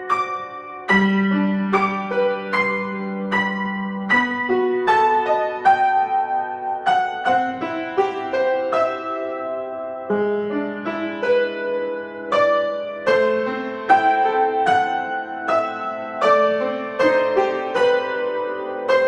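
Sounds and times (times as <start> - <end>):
slow piano piece: 0.0 - 19.0.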